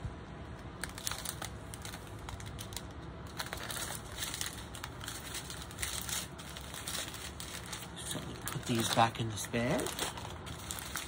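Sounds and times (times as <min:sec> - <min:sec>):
plastic bags crinkling: 0:00.7 - 0:11.0.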